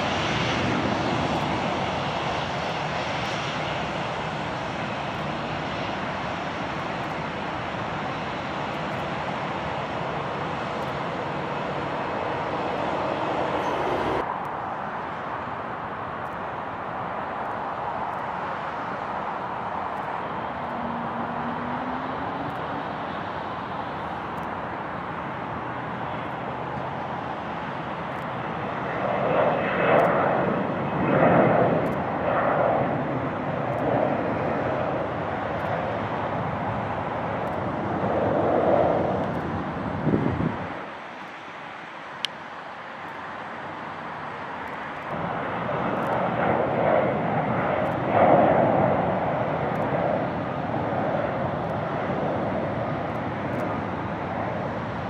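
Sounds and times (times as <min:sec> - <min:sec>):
jet engine rushing: 0:00.0 - 0:14.5, 0:17.7 - 0:42.2, 0:42.9 - 0:55.0.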